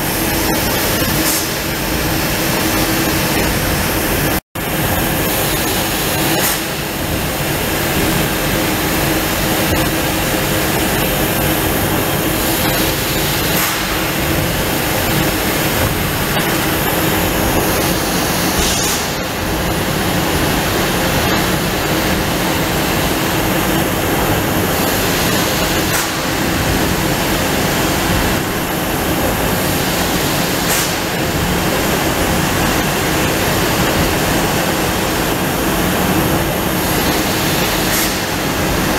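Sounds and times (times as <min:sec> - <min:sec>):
laser cutter hissing: 0:00.0 - 0:38.8
machine hum: 0:00.0 - 0:38.9.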